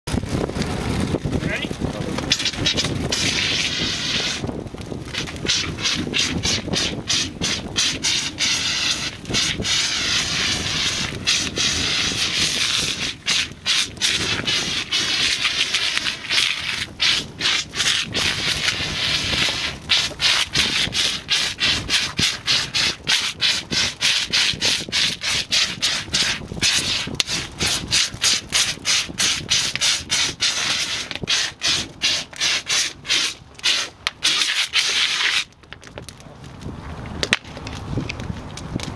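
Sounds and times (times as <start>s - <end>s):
compressed-air foam hissing from nozzle: 2.4s - 4.4s, 5.5s - 35.4s.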